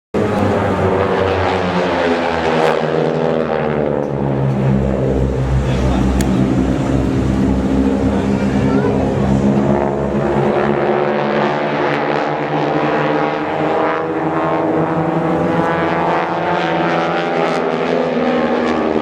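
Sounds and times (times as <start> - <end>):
propeller airplane engine droning: 0.2 - 19.0.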